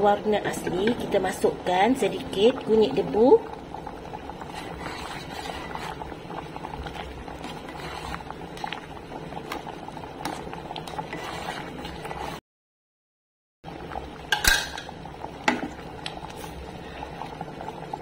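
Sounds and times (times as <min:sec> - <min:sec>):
water boiling with bubbling pops: 0:00.0 - 0:12.4, 0:13.6 - 0:18.0.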